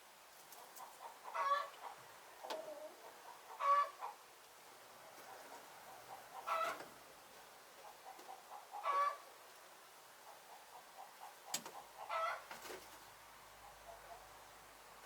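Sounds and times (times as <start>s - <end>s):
chickens clucking: 0.4s - 4.2s, 4.9s - 9.4s, 10.2s - 14.5s
drawn-out hen calls: 0.5s - 9.5s, 10.2s - 14.6s.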